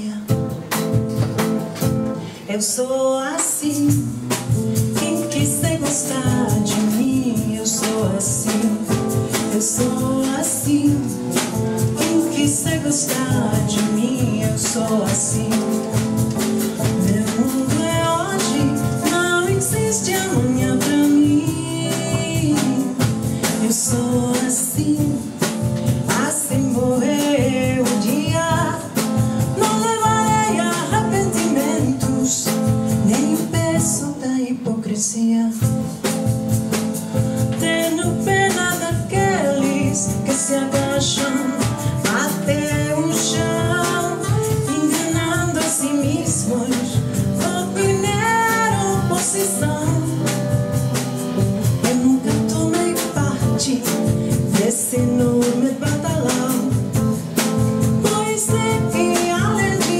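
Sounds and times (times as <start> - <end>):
acoustic guitar: 0.0 - 59.9
woman singing: 0.0 - 59.9
hand drum: 0.2 - 2.2, 3.4 - 34.2, 35.5 - 59.9.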